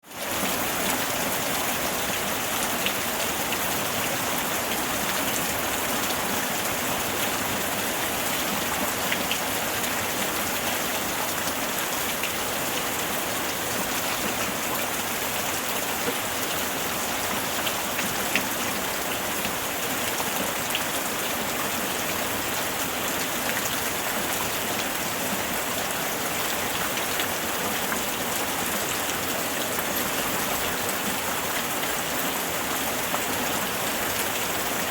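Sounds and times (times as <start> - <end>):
heavy rain on foliage: 0.0 - 34.9.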